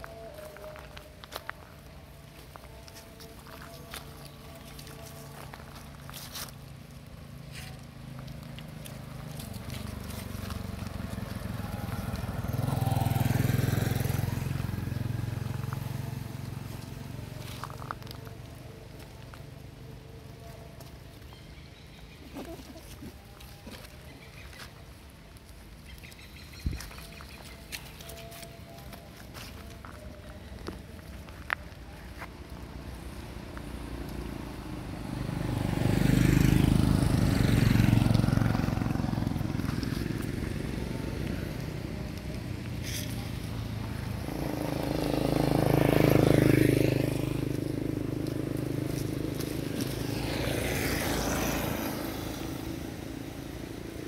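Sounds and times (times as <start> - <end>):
vehicle passing: 0.0 - 28.8, 29.6 - 54.0.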